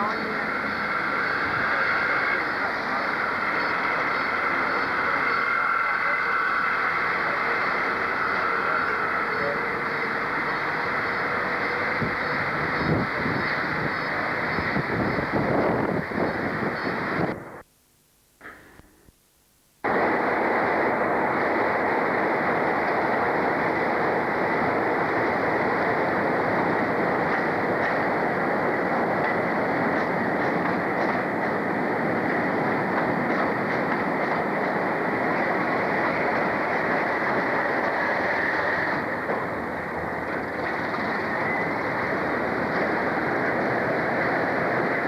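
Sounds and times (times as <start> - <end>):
train running: 0.0 - 17.7, 19.8 - 45.0.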